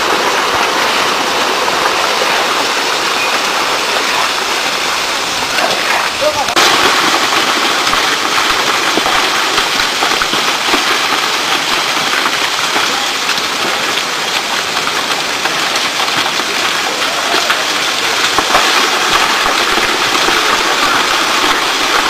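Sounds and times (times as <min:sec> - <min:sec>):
mud and water rushing: 0:00.0 - 0:22.0.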